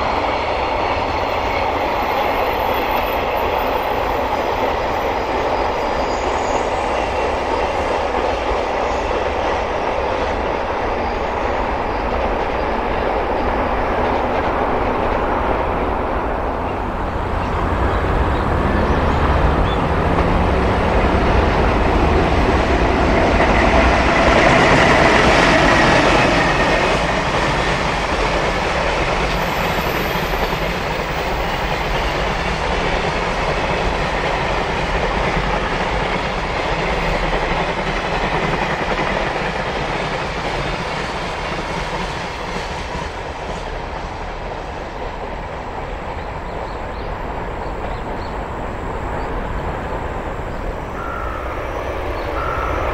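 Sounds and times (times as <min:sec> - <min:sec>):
freight train passing: 0:00.0 - 0:52.9.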